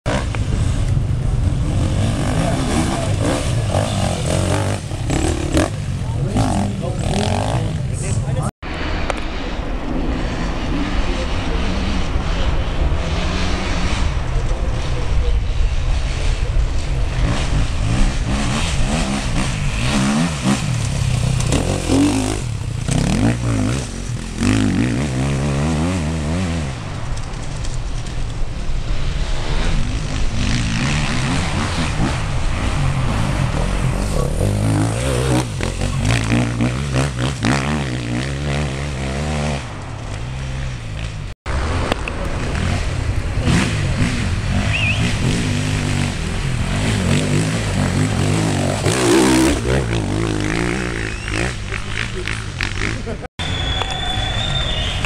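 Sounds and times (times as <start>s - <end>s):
motorcycle engines revving: 0.1s - 55.0s.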